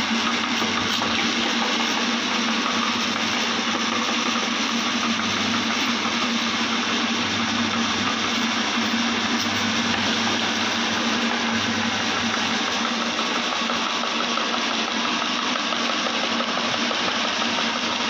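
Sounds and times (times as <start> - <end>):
electric meat grinder humming: 0.0 - 18.0.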